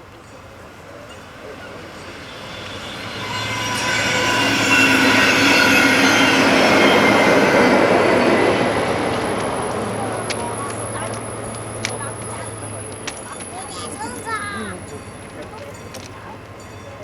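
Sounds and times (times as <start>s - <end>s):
locomotive running past: 0.0s - 17.0s
steady tones: 1.0s - 17.0s.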